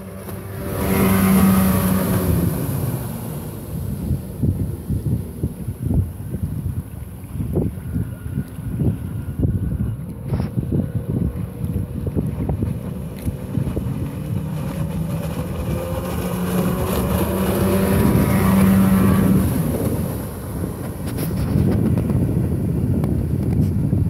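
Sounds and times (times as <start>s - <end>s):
motorboat engine passing: 0.0s - 24.0s
wind buffeting microphone: 0.0s - 24.0s.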